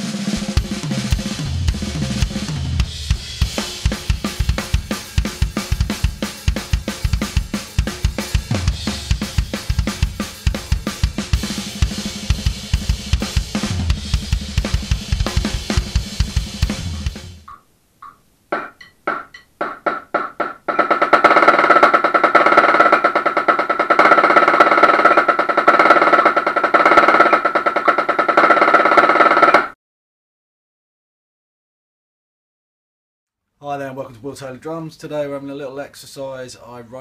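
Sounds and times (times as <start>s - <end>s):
drum kit played fast: 0.0s - 29.7s.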